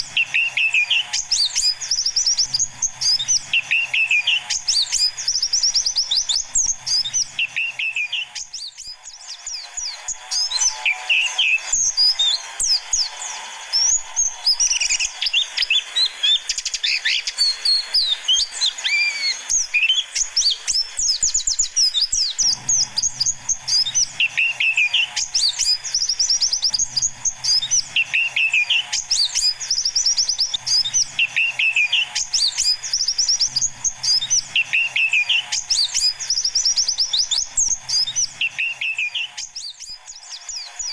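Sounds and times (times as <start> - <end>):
birds chirping in fast trills: 0.0 - 40.9.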